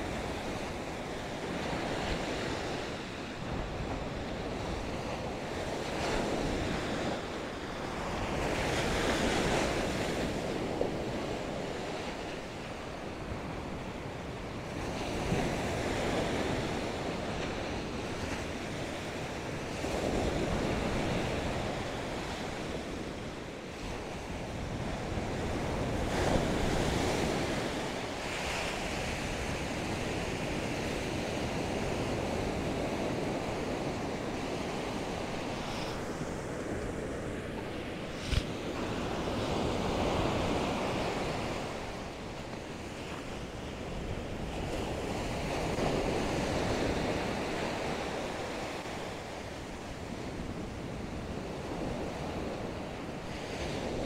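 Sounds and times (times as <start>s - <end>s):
ocean surf breaking on beach: 0.0s - 54.0s
wind rumbling on microphone: 0.0s - 54.0s.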